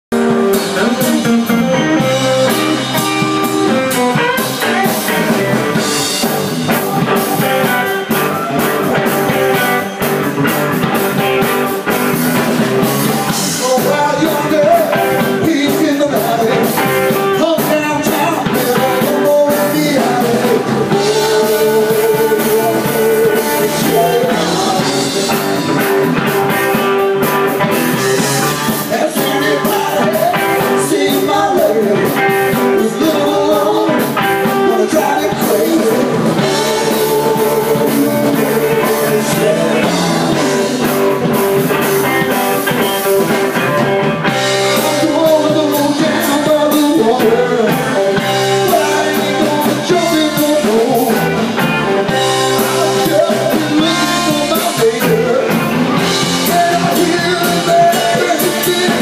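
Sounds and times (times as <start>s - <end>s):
rock band playing: 0.1s - 59.0s
man singing lead vocals: 0.2s - 59.0s.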